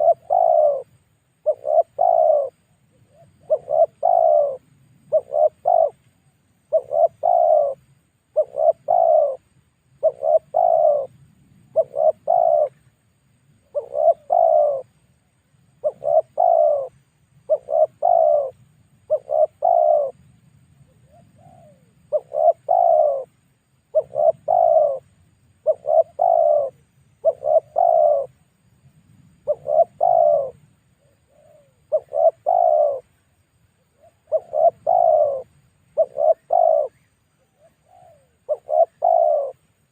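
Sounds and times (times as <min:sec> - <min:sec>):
dove cooing: 0:00.0 - 0:12.8, 0:13.6 - 0:15.0, 0:15.7 - 0:20.2, 0:20.8 - 0:28.4, 0:29.4 - 0:33.2, 0:33.8 - 0:39.7.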